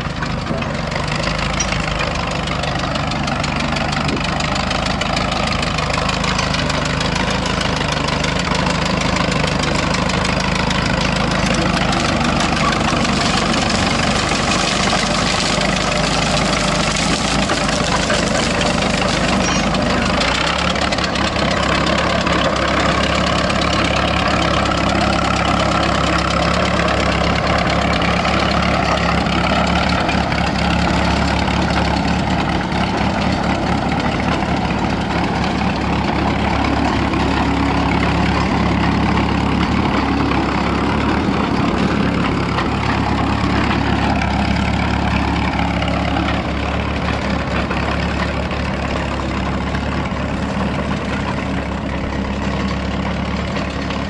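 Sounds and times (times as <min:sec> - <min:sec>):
crawler tractor engine running: 0:00.0 - 0:54.0.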